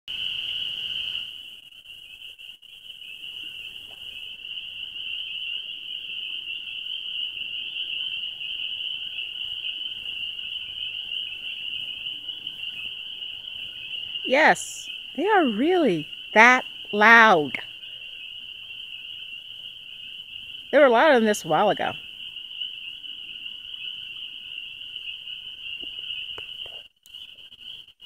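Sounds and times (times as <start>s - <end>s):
chorus of frogs peeping: 0.1s - 28.0s.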